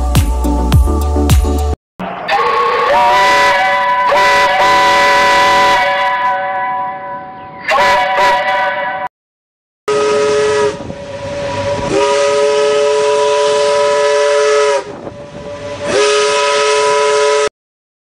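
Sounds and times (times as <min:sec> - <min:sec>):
ship's steam whistle blasts: 0:02.3 - 0:09.1, 0:09.9 - 0:17.5.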